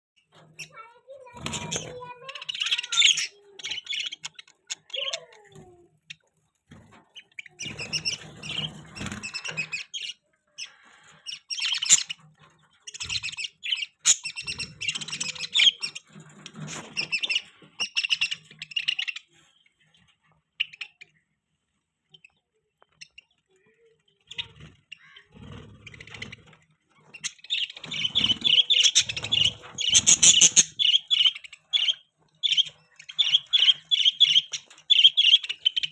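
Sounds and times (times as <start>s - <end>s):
budgies chirping and chattering: 0.2s - 35.9s.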